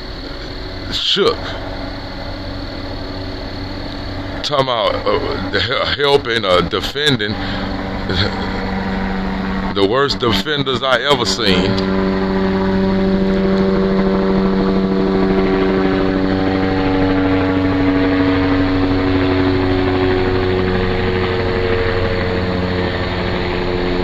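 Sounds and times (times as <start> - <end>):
helicopter rotor drone: 0.0 - 24.0.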